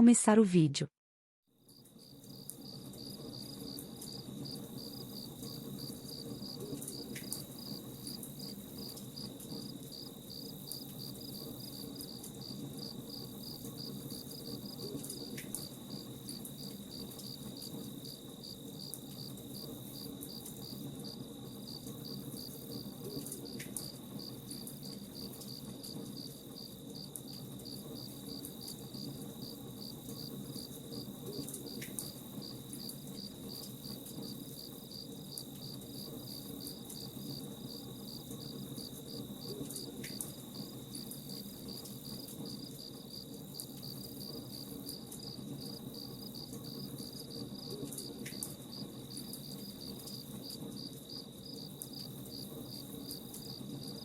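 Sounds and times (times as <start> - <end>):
crickets chirping: 1.7 - 54.0.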